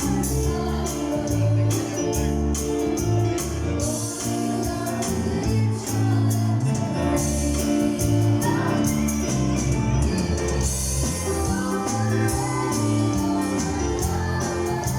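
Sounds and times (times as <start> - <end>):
gospel music with singing: 0.0 - 14.9
tambourine-like percussion: 0.0 - 14.9.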